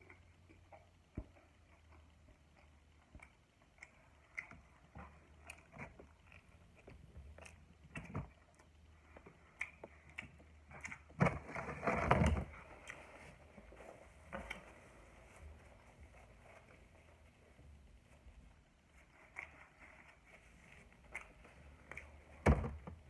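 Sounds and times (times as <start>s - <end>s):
close chewing and mouth sounds: 0.0s - 23.0s.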